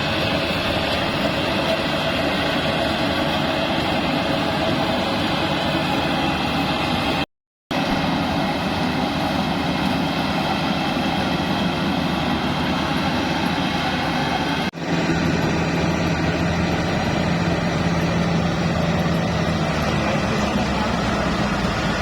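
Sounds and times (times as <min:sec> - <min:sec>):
harvester engine running: 0:00.0 - 0:22.0.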